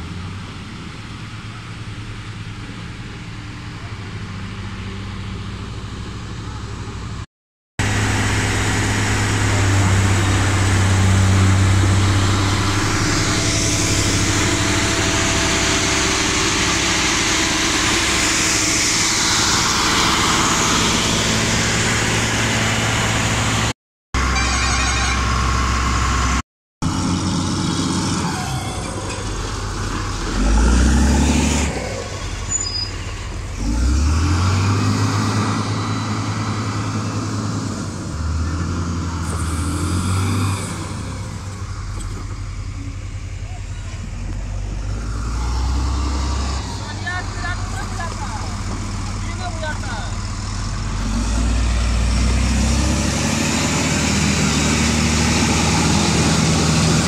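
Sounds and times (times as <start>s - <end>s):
heavy machine diesel engines droning: 0.0s - 57.0s.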